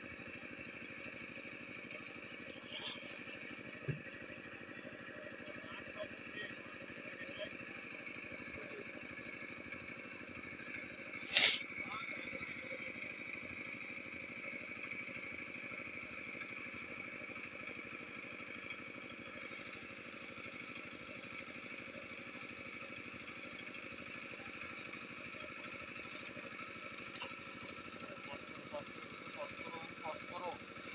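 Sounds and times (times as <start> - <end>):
small engine puttering: 0.0 - 30.9.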